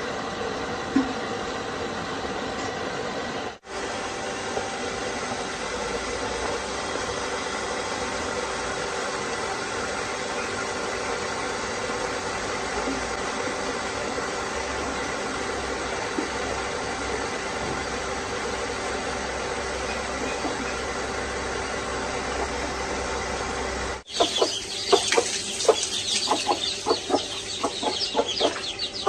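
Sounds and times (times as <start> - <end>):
machine running with faint hum: 0.0 - 29.0.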